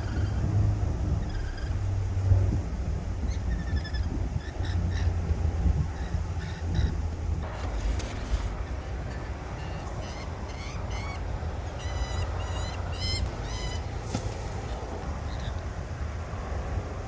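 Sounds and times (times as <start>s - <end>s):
birds chirping: 0.0s - 7.5s, 8.5s - 16.1s
wind rumble on microphone: 0.0s - 17.0s.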